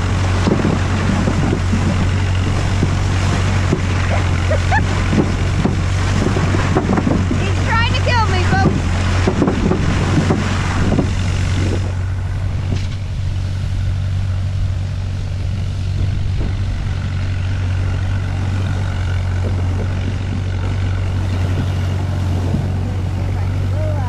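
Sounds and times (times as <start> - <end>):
rushing of snow and wind: 0.0 - 24.0
tractor engine droning: 0.0 - 24.0.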